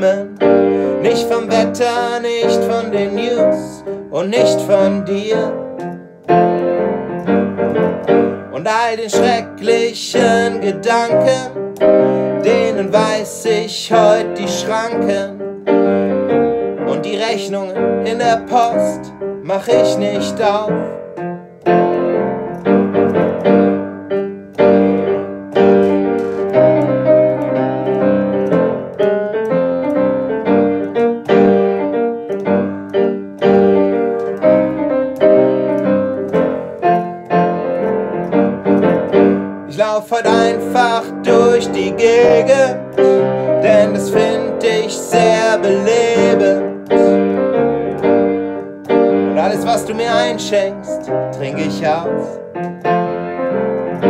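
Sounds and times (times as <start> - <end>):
piano playing chords and melody: 0.0 - 54.0.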